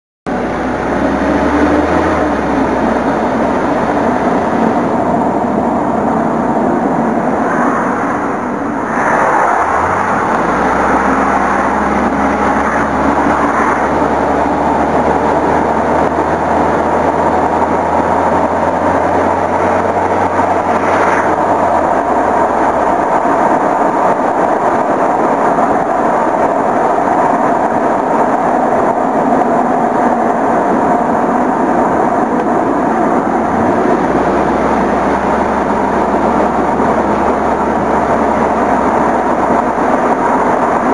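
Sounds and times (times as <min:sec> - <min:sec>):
low engine drone: 0:00.3 - 0:40.9
tyre road noise: 0:00.3 - 0:40.9
wind rushing: 0:00.4 - 0:40.9.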